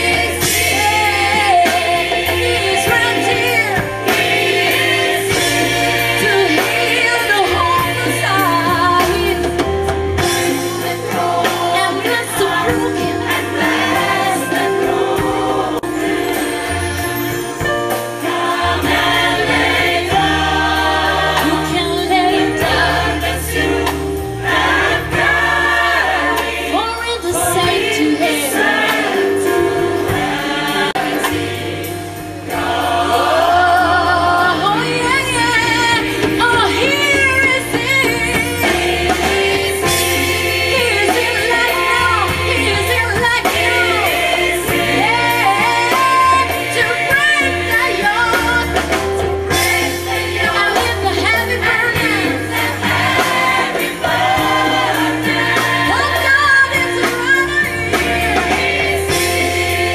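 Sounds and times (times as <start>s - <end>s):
band playing: 0.0s - 59.9s
gospel choir singing: 0.0s - 59.9s.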